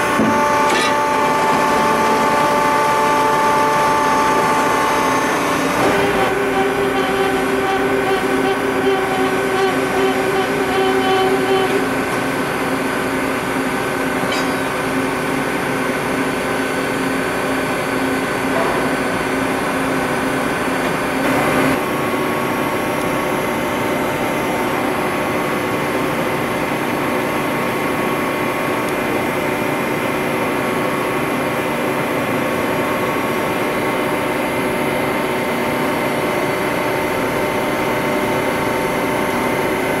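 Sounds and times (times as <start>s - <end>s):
machinery hum with steady tones: 0.0s - 40.0s.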